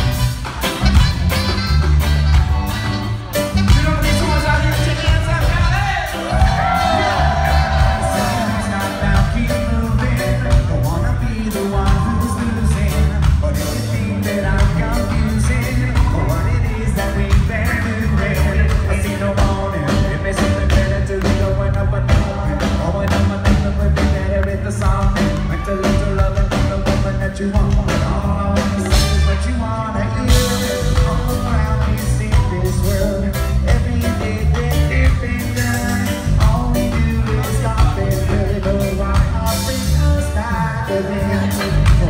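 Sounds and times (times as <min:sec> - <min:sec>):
steady drum beat: 0:00.0 - 0:29.6, 0:30.2 - 0:42.0
heavy bass: 0:00.0 - 0:42.0
live reggae-rock band: 0:00.0 - 0:42.0
person singing: 0:03.6 - 0:42.0.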